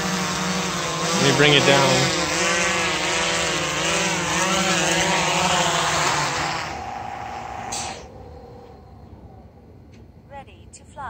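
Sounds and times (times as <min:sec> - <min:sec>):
drone propellers whining: 0:00.0 - 0:10.6.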